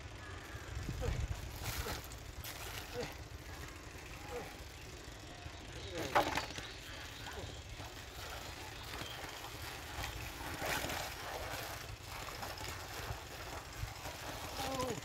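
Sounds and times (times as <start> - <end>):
muddy water sloshing: 0.5 - 4.8, 5.8 - 15.0.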